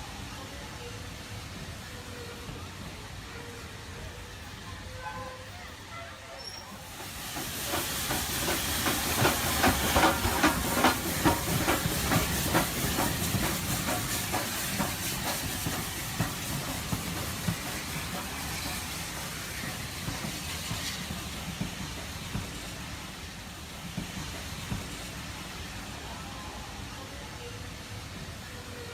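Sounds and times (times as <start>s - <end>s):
model steam locomotive chuffing: 0.0s - 28.9s
steam hissing: 0.0s - 28.9s.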